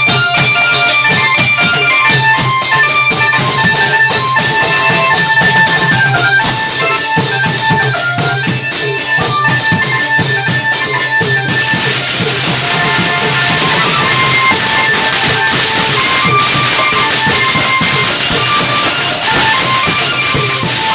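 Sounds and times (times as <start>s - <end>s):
cymbals: 0.0s - 20.9s
long-drum ensemble beats: 0.0s - 20.9s
melody of held notes: 0.0s - 20.9s.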